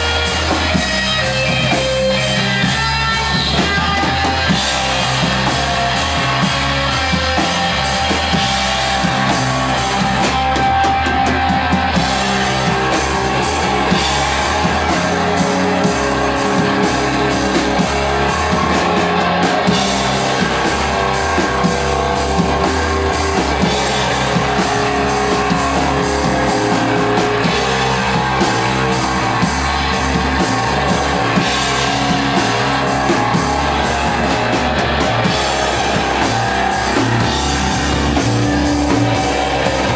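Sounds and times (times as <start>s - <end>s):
drum kit beating: 0.0s - 39.9s
fuzzed electric guitar: 0.0s - 39.9s.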